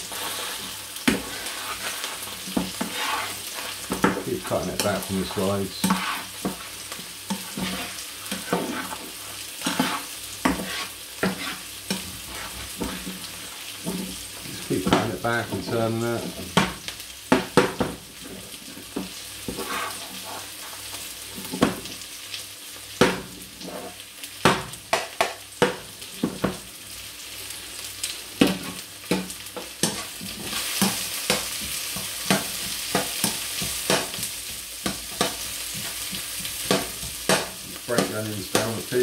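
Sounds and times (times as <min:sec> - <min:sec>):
spatula scraping and tapping pans: 0:00.0 - 0:22.0, 0:23.0 - 0:26.6, 0:28.4 - 0:39.0
eggs and onion sizzling in pans: 0:00.0 - 0:39.0.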